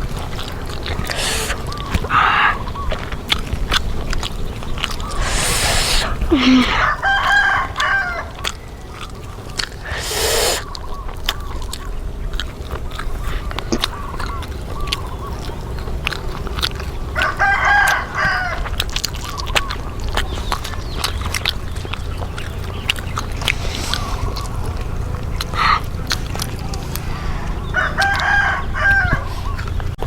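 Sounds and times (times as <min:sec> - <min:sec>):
chewing crunchy food: 0:00.0 - 0:30.0
chickens clucking: 0:00.0 - 0:30.0.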